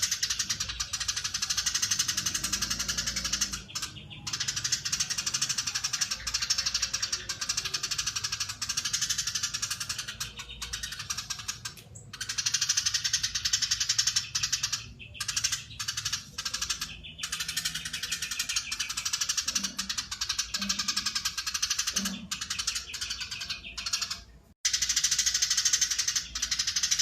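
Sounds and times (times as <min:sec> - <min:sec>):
sparrow chattering call: 0:00.0 - 0:27.0.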